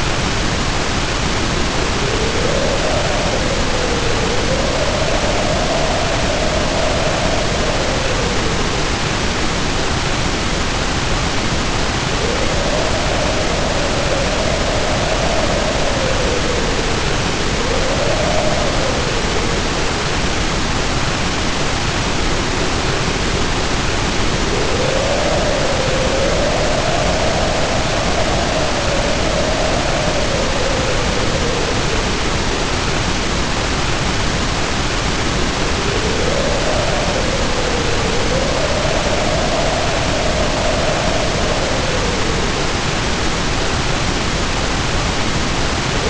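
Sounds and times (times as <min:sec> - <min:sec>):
heavy rain pouring: 0:00.0 - 0:46.0
wind howling: 0:00.0 - 0:46.0.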